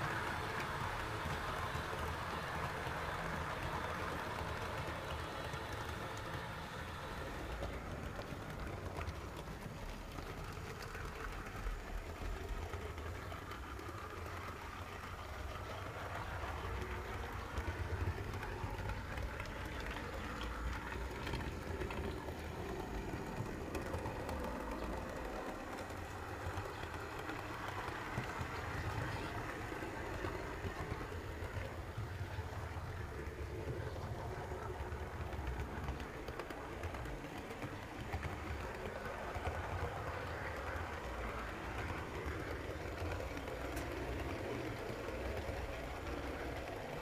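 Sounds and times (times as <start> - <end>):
model train wheels rumbling on rails: 0.0 - 47.0.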